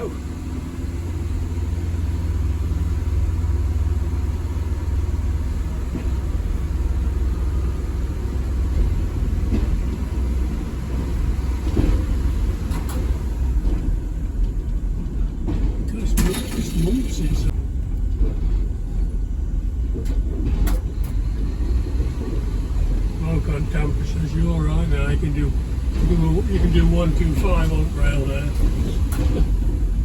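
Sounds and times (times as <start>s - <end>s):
vehicle rumbling: 0.0s - 30.0s.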